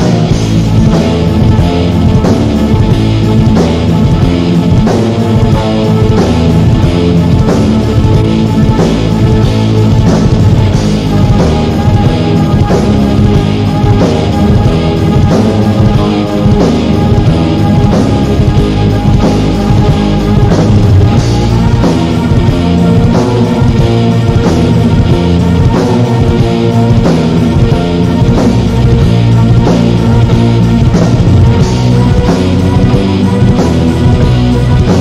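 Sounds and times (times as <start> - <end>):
drum kit: 0.0 - 35.0
guitar: 0.0 - 35.0.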